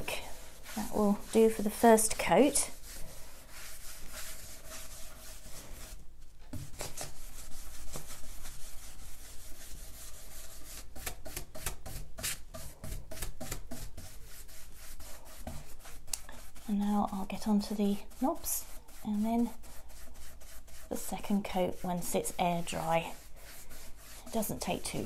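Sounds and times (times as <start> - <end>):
brush scrubbing on wood: 0.0 - 6.0, 6.6 - 25.0.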